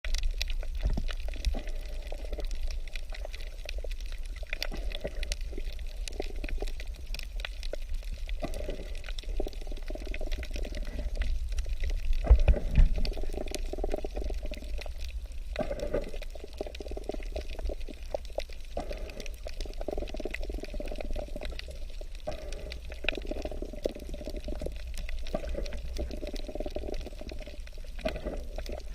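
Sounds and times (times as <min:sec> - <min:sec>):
water bubbling underwater: 0:00.0 - 0:28.9.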